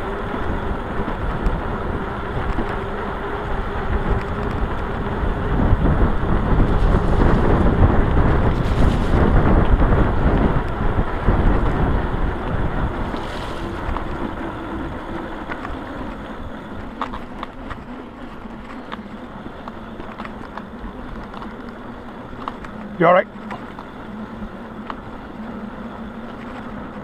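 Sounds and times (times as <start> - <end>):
low hum: 0.0 - 27.0
wind rushing over microphone: 0.0 - 27.0.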